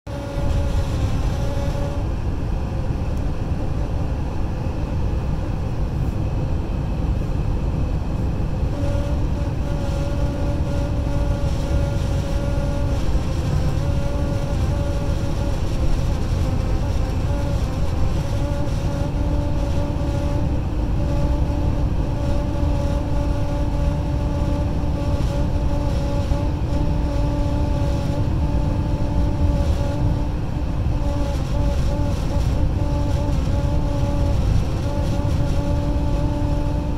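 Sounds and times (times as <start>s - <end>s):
road and wind rumble: 0.0s - 36.9s
buzzing hum: 0.1s - 36.9s
low-pitched rumble: 0.1s - 36.9s.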